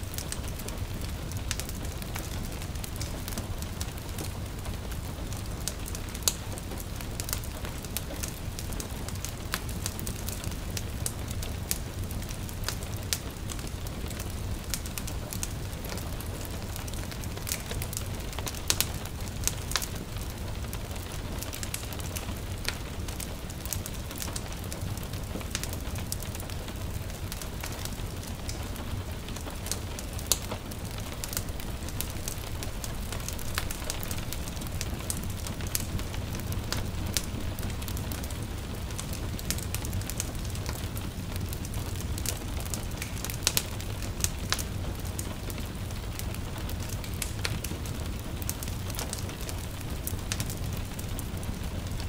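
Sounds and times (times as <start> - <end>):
light rain hissing: 0.0 - 52.0
wood fire crackling and popping: 0.0 - 52.0.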